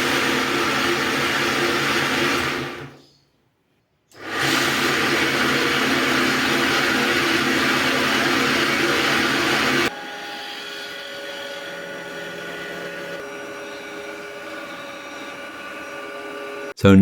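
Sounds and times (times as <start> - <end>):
bench grinder motor running: 0.0 - 3.0, 4.2 - 16.7.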